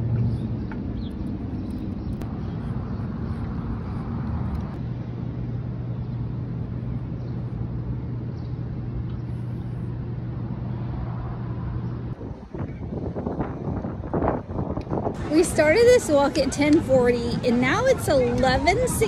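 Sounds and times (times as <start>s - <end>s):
low steady hum: 0.0s - 19.0s
street traffic noise: 0.0s - 19.0s.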